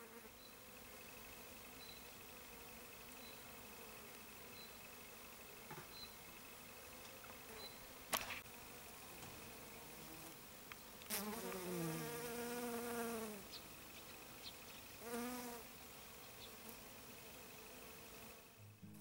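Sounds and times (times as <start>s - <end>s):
bee buzzing past: 0.0s - 10.4s, 11.0s - 19.0s.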